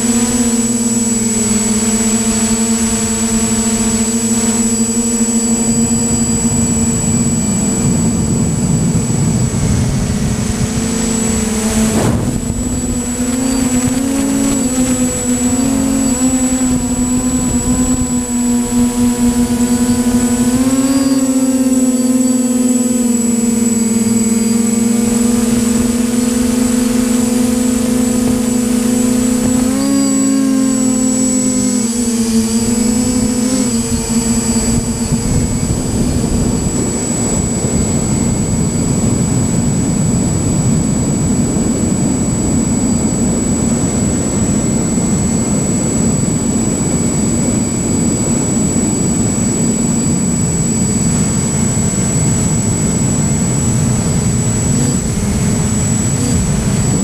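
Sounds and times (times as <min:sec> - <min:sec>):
electric motor and propeller hum: 0:00.0 - 0:57.0
wind over microphone: 0:00.0 - 0:57.0.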